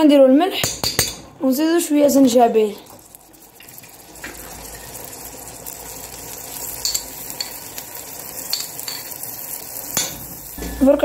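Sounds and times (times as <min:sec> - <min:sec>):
rice sizzling in hot fat: 0:02.0 - 0:11.0.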